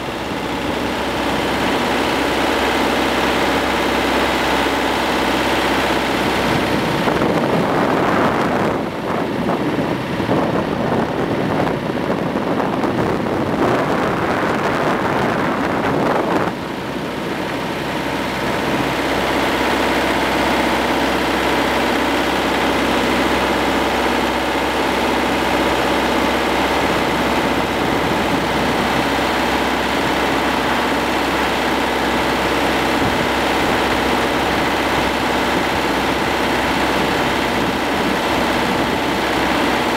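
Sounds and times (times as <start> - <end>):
rough rumbling noise: 0.0 - 39.9
tractor diesel engine running: 0.0 - 39.9.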